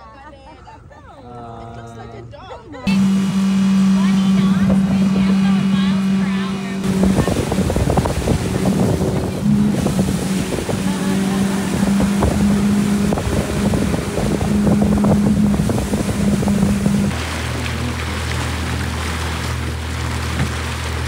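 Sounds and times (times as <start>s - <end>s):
outboard motor running: 2.8s - 21.0s
hull slapping water: 2.9s - 21.0s
wind buffeting microphone: 2.9s - 21.0s.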